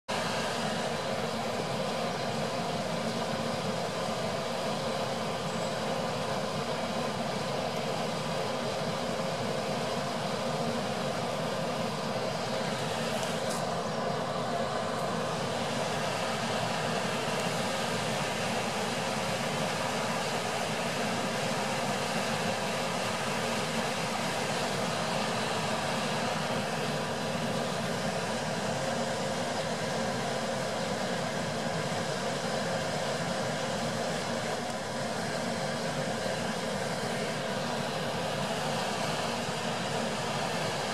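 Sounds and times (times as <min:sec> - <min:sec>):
steady hum and hiss: 0:00.1 - 0:40.9.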